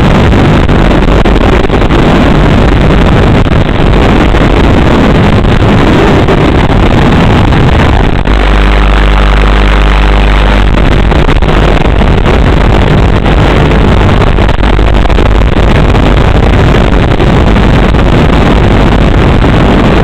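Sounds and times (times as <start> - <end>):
loud rushing noise: 0.0 - 20.0
low hum: 0.0 - 20.0.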